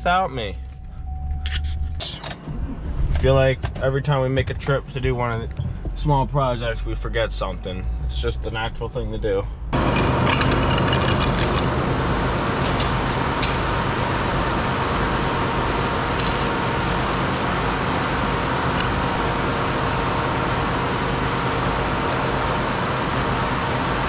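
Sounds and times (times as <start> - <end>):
machinery hum with steady tones: 0.0 - 5.9, 9.5 - 24.0.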